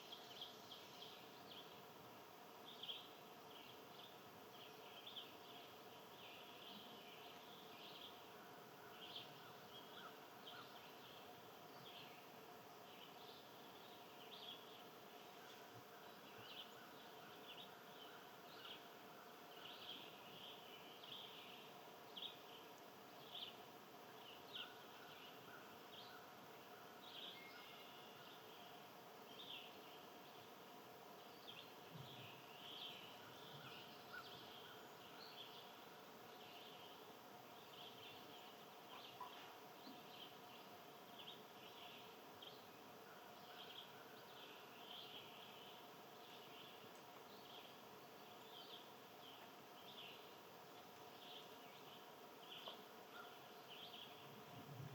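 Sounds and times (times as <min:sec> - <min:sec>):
small birds chirping: 0:02.6 - 0:54.9.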